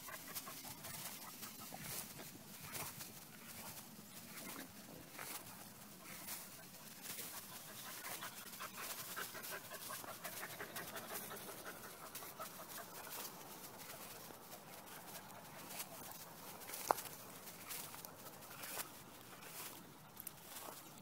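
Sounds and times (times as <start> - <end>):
dog panting: 0.0 - 19.6.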